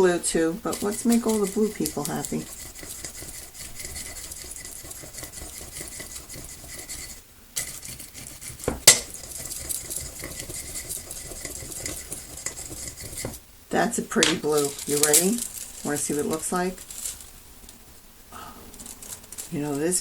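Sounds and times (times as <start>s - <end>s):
foil scratching and crinkling: 0.6s - 13.4s, 14.4s - 17.4s, 18.7s - 20.0s.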